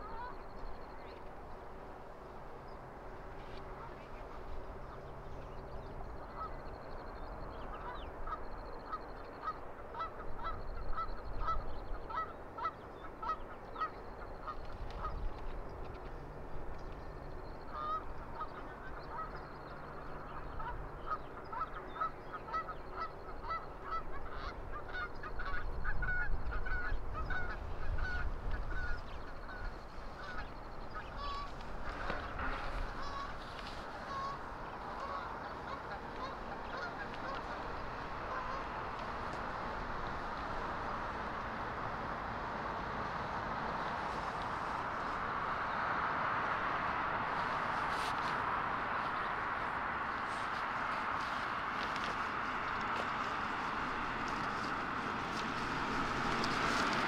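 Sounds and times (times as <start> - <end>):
flock of birds calling: 0.0 - 1.3, 3.2 - 16.1, 17.5 - 57.0.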